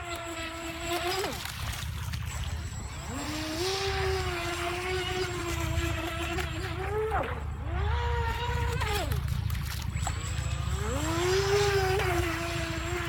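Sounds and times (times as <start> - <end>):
electric boat motor whining: 0.0 - 13.0.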